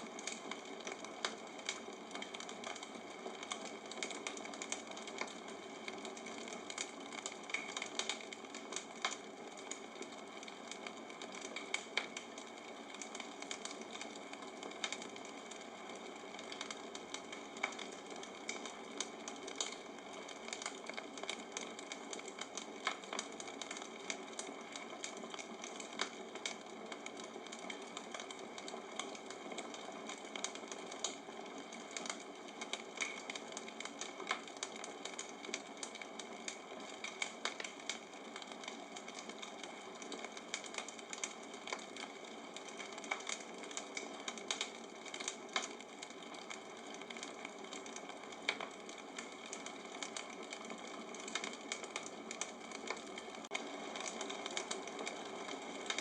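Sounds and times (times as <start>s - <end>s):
bonfire crackling: 0.0s - 56.0s.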